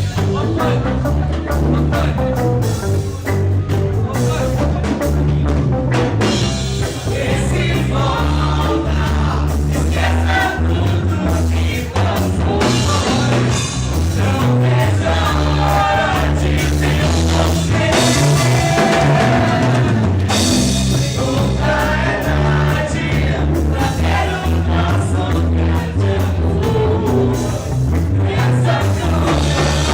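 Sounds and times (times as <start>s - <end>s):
person singing lead vocal: 0.0s - 2.8s, 6.8s - 29.9s
bass guitar: 0.0s - 29.9s
drum kit: 0.0s - 29.9s.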